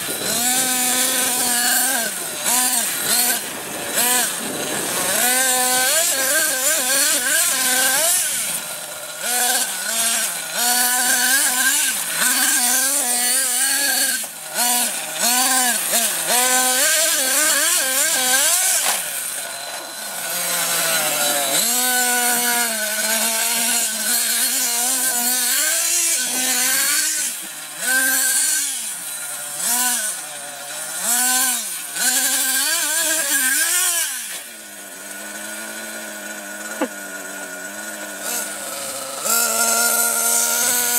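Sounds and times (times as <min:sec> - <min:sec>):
small nitro engine revving: 0:00.0 - 0:40.9.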